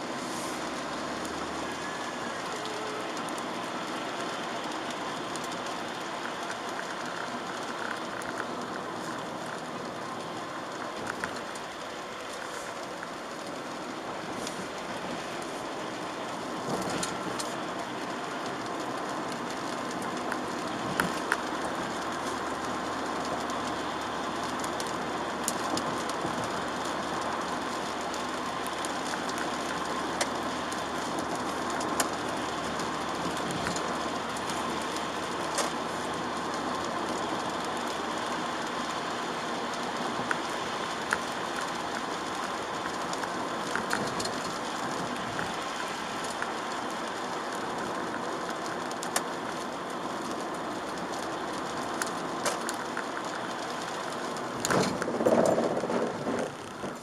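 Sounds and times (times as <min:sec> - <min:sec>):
road and tyre noise in car cabin: 0:00.0 - 0:57.0.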